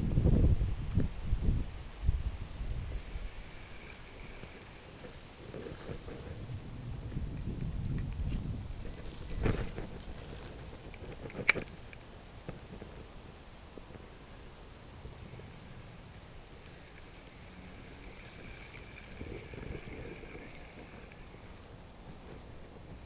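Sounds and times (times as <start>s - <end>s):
low rumble of handling: 0.0s - 14.1s, 14.9s - 23.0s
steady faint hiss: 0.0s - 23.0s.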